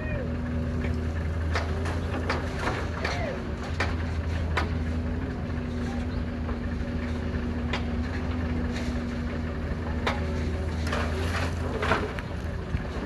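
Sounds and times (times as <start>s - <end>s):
excavator diesel engine running: 0.0s - 13.0s
rock and dirt clattering: 0.7s - 13.0s.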